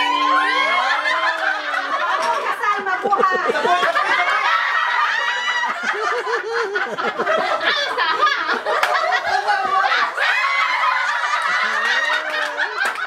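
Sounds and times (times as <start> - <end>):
people laughing: 0.0 - 13.0.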